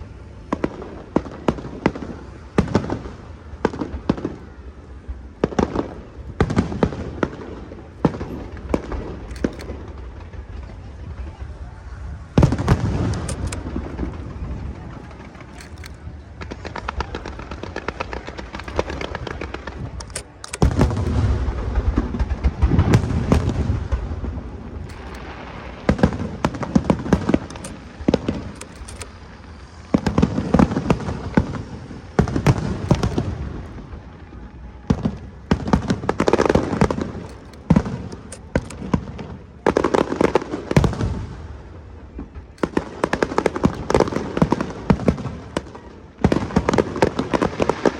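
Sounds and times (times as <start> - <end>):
fireworks crackling and hissing: 0.0 - 47.9
fireworks booming and cracking: 0.2 - 11.3, 12.2 - 15.5, 16.2 - 47.9.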